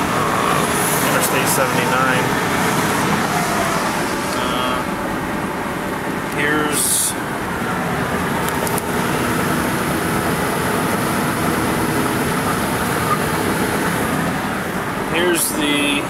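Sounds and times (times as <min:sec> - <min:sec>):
car engine cruising: 0:00.0 - 0:16.0
road noise inside car: 0:00.0 - 0:16.0.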